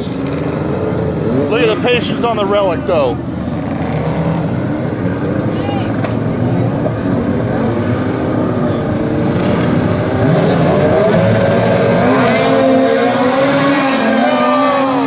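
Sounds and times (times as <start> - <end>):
lawn mower engines racing: 0.0 - 15.0.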